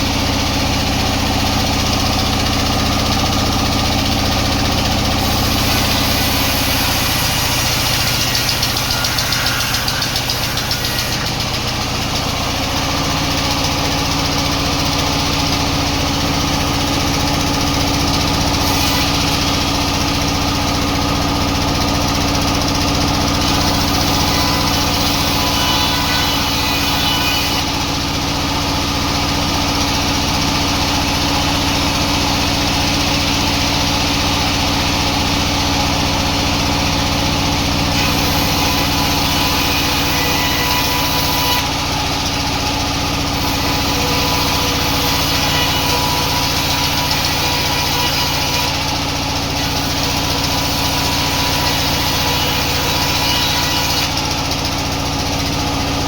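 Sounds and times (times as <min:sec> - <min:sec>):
sawmill engine droning: 0:00.0 - 0:56.0.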